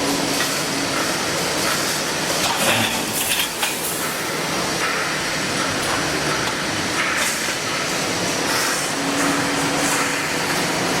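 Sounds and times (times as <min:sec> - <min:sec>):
wire mesh welding machine running: 0:00.0 - 0:11.0.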